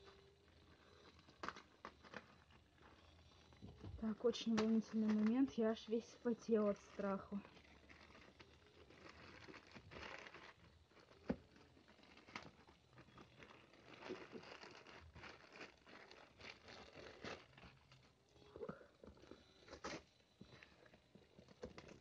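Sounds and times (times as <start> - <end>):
plastic mailer bag crinkling: 0.0 - 18.2.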